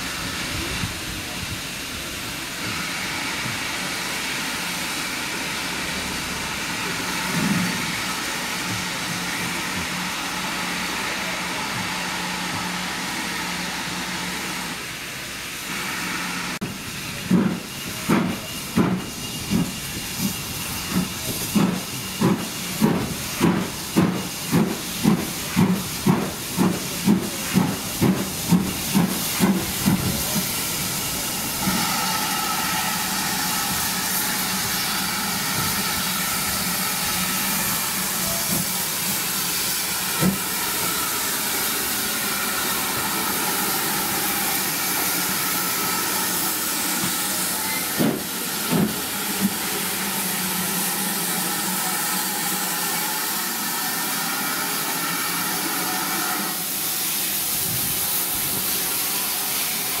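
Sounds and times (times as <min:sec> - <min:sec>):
steam locomotive hissing: 0:00.0 - 1:00.0.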